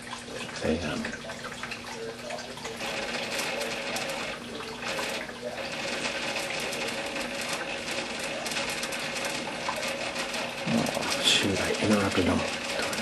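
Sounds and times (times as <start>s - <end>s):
water running and trickling: 0.0s - 13.0s.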